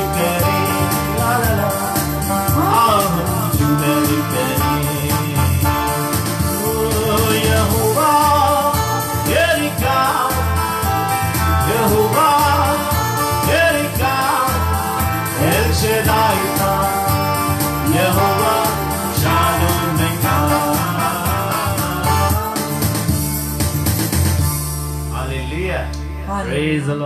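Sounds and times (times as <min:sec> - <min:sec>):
man and woman singing: 0:00.0 - 0:10.8, 0:11.6 - 0:22.6
instrumental backing: 0:00.0 - 0:27.0.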